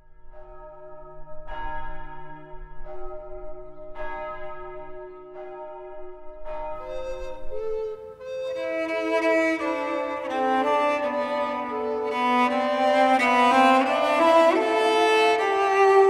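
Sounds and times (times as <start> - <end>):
church bell tolling: 0.0 - 16.0.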